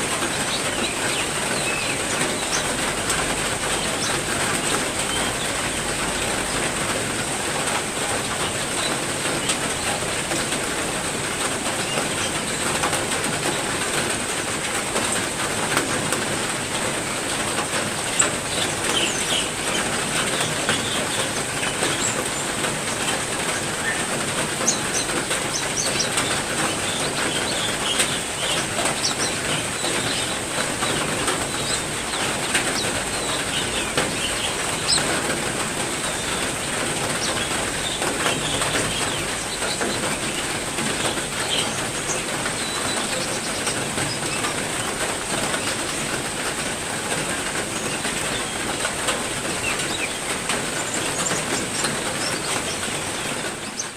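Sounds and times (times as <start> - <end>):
songbirds chirping: 0.0 - 14.4, 15.0 - 53.9
heavy rain falling: 0.0 - 53.9.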